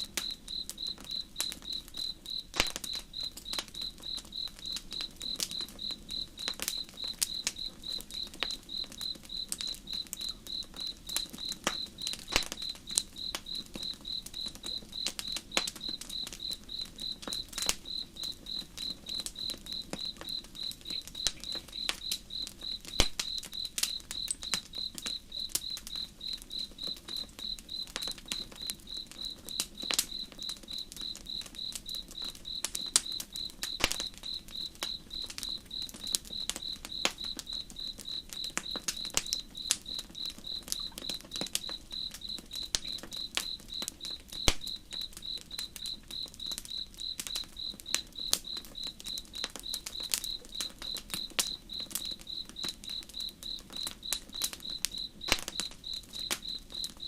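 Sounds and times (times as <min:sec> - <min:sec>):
campfire crackling and popping: 0:00.0 - 0:57.0
cricket chirping: 0:00.0 - 0:57.0.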